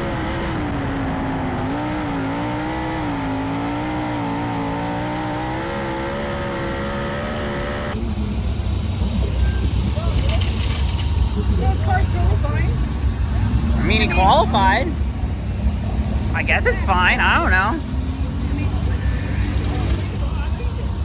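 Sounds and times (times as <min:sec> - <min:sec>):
race car engine running hard: 0:00.0 - 0:21.0.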